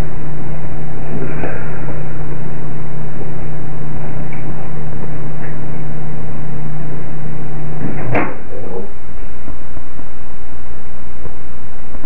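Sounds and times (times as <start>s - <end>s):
microphone hiss: 0.0s - 12.0s
microwave oven humming: 0.0s - 12.0s.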